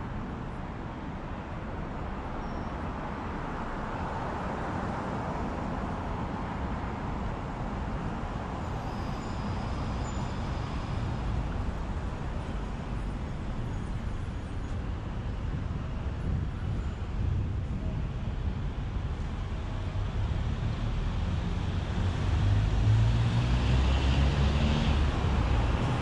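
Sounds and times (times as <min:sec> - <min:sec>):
city traffic rushing: 0:00.0 - 0:26.0.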